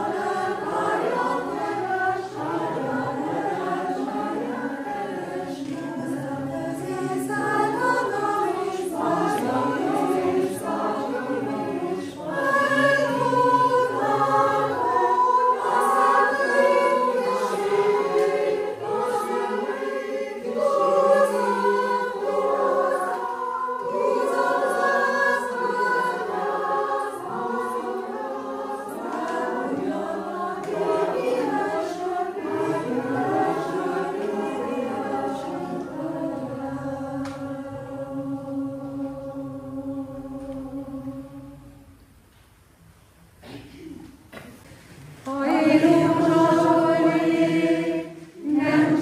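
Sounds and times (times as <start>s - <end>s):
choir singing a cappella: 0.0s - 42.3s, 45.0s - 49.0s.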